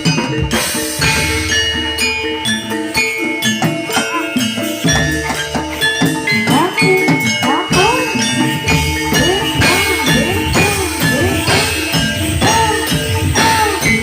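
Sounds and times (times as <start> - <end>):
drum strokes: 0.0 - 14.0
jingling bells: 0.0 - 14.0
metallophones ringing: 0.0 - 14.0.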